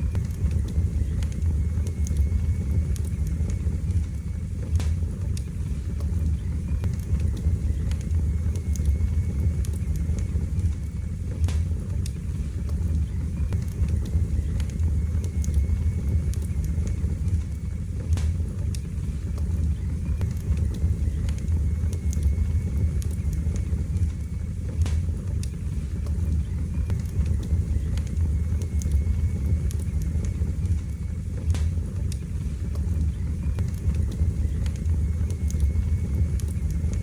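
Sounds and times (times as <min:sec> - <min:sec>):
fire flames roaring: 0:00.0 - 0:37.0
logs crackling and popping: 0:00.0 - 0:37.0.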